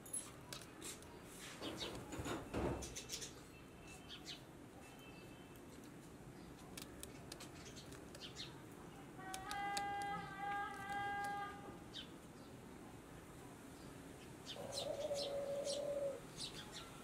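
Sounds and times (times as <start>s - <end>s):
faint birds chirping: 1.1s - 17.0s.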